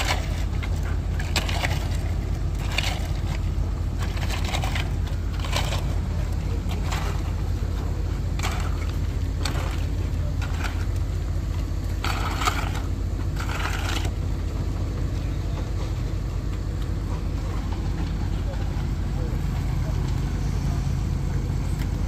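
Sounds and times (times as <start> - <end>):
diesel truck engine running: 0.0 - 22.0
scraping and crunching: 0.0 - 22.0.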